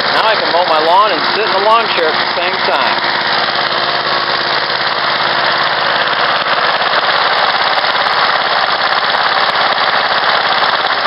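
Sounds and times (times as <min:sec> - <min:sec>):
lawnmower engine running: 0:00.0 - 0:11.0.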